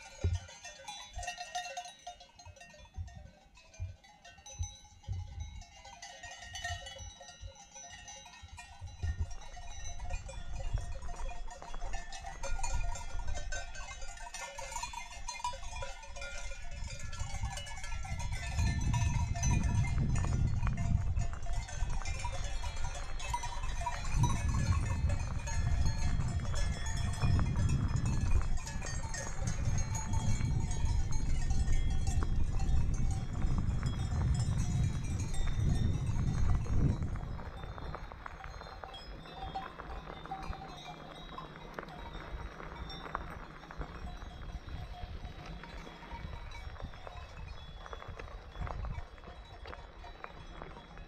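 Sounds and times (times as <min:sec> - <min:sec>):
cowbells clanking: 0:00.0 - 0:51.0.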